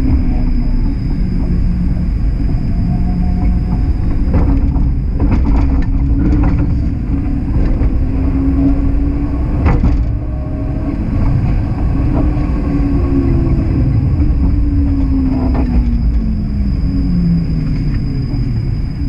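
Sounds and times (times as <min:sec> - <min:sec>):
streetcar rumbling on rails: 0:00.0 - 0:19.0.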